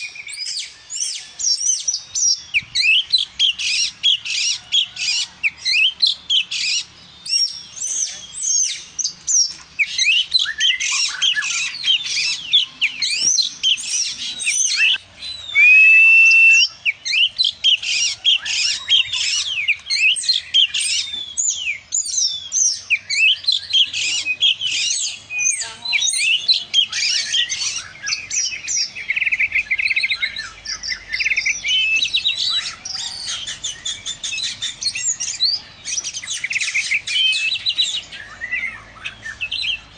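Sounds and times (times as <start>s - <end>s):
buzzy rattling bird song: 0.0s - 39.9s
loud held bird whistle: 0.0s - 39.9s
songbird whistles and chirps: 0.0s - 39.9s.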